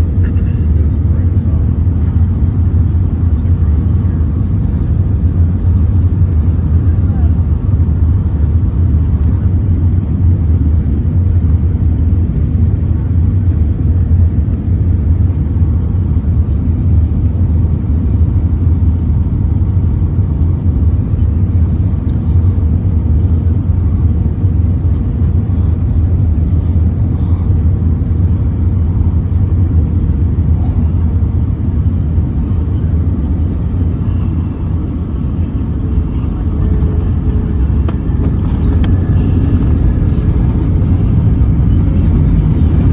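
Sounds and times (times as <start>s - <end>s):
airliner cabin engine rumble: 0.0s - 42.9s.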